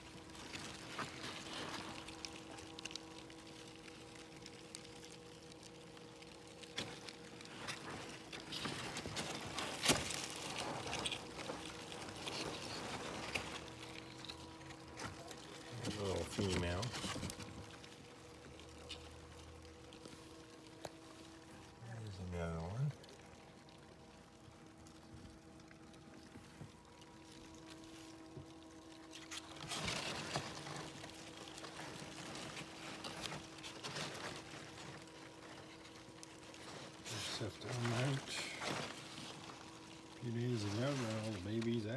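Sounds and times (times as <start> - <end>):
cardboard rustling and crackling: 0.0 - 41.9
low electrical hum: 0.0 - 41.9.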